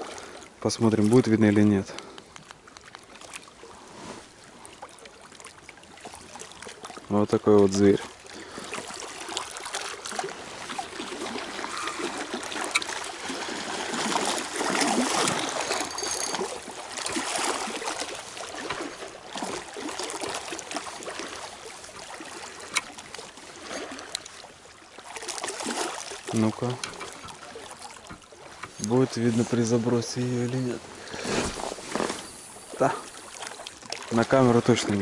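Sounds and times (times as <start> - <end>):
small waves lapping at shore: 0.0 - 35.0.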